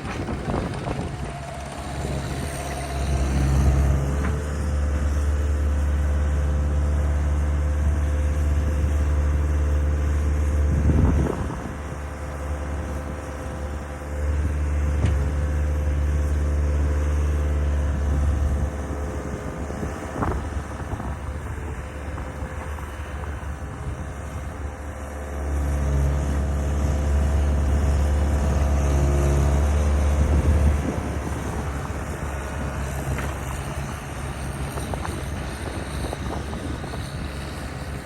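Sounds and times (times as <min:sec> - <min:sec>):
heavy equipment engine revving: 0:00.0 - 0:38.0.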